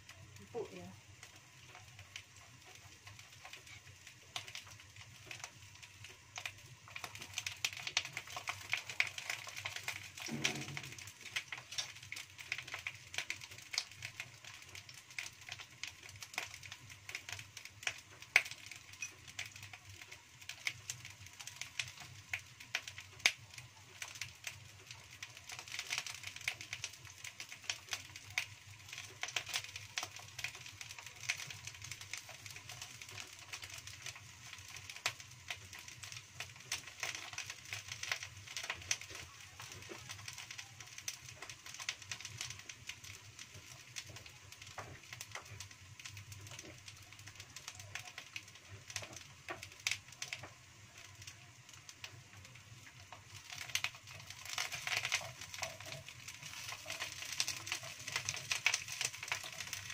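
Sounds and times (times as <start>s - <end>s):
eggplant sizzling in a wok: 0.0s - 59.9s.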